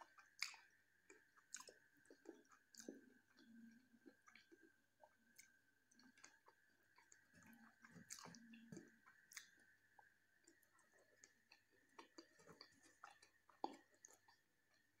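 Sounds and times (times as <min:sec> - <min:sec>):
faint chewing and mouth smacks: 0:00.0 - 0:15.0.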